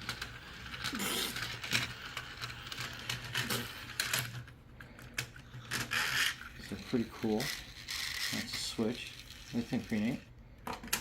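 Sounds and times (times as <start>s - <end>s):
plastic toy pieces clicking: 0.0s - 11.0s.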